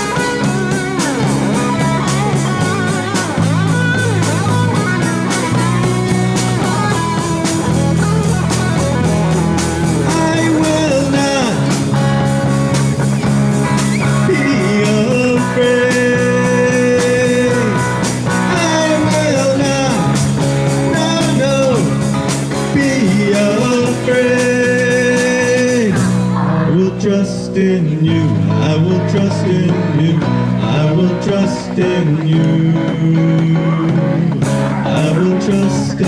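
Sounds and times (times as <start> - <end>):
drum kit: 0.0 - 26.8, 28.2 - 36.0
electric guitars: 0.0 - 36.0
keyboard: 0.0 - 36.0.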